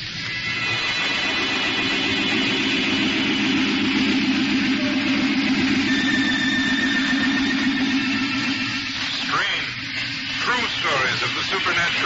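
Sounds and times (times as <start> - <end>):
wavering low hum: 0.0 - 11.6
train rushing noise: 0.0 - 12.0.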